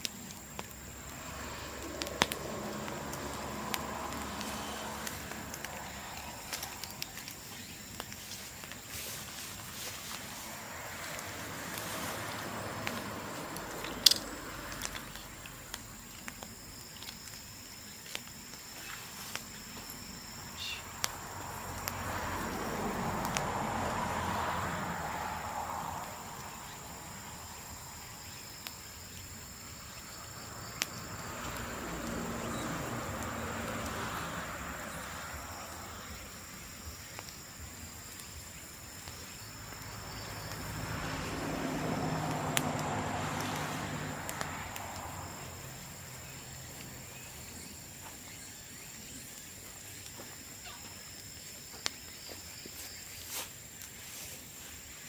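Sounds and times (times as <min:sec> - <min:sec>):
bonfire popping: 0:00.0 - 0:26.6, 0:28.6 - 0:34.1, 0:35.8 - 0:48.2
high insect drone: 0:00.0 - 0:55.0.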